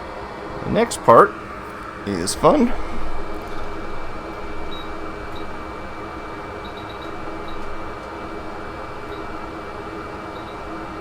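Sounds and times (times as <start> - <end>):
small fan motor whirring: 0.0 - 11.0.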